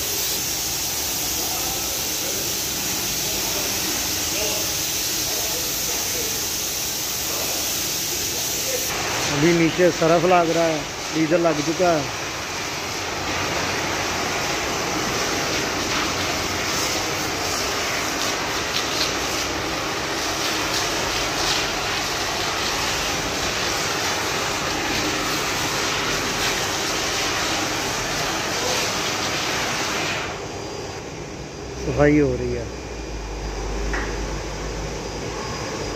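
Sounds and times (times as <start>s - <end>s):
pressure washer spraying: 0.0s - 30.4s.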